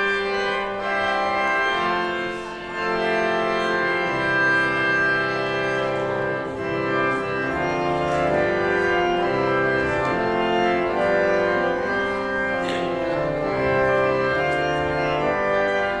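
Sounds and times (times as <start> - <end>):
church organ playing chords: 0.0 - 16.0.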